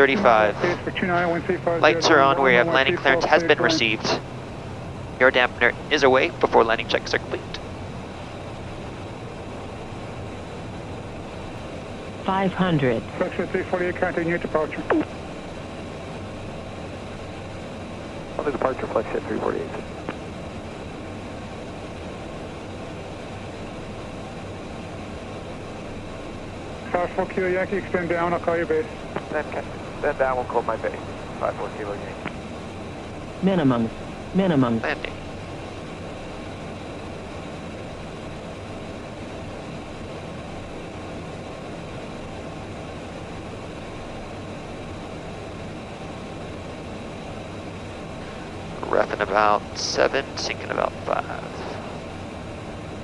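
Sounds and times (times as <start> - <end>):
low jet engine hum: 0.0 - 53.0.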